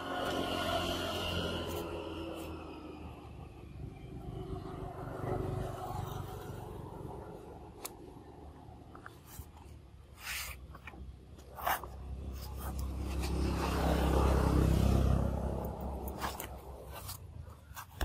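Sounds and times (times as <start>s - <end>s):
passing vehicle rumble: 0.0s - 8.9s, 11.9s - 17.6s.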